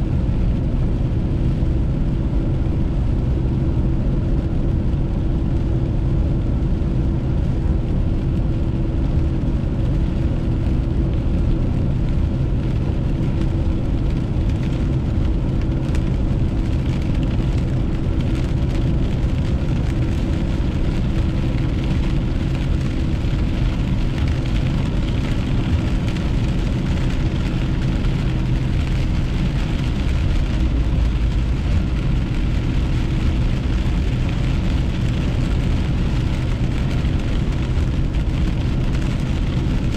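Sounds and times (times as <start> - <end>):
car interior driving drone: 0.0 - 39.9
rain on windshield: 0.1 - 39.9.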